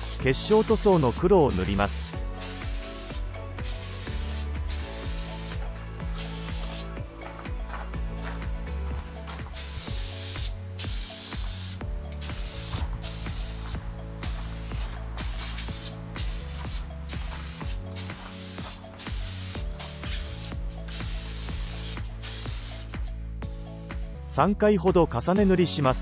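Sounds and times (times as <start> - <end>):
aerosol spray can hissing: 0.0 - 7.0, 9.2 - 24.4.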